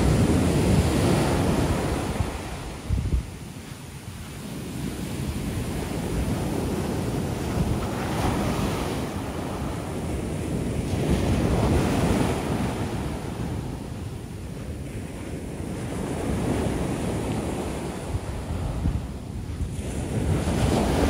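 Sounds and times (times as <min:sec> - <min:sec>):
waves crashing on beach: 0:00.0 - 0:21.0
wind buffeting microphone: 0:00.0 - 0:21.0.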